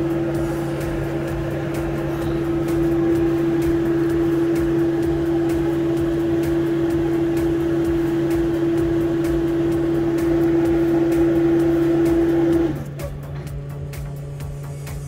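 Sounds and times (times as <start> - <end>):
low drone: 0.0 - 15.0
machine humming: 0.0 - 15.0.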